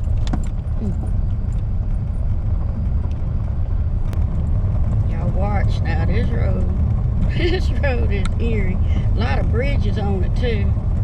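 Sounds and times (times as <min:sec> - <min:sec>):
car driving rumble: 0:00.0 - 0:11.0
road and wind noise: 0:00.0 - 0:11.0.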